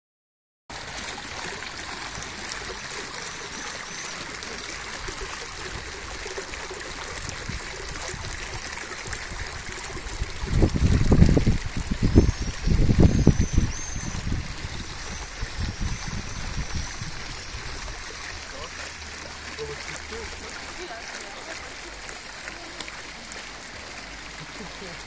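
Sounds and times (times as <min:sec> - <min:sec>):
fountain water flowing: 0:00.7 - 0:25.0.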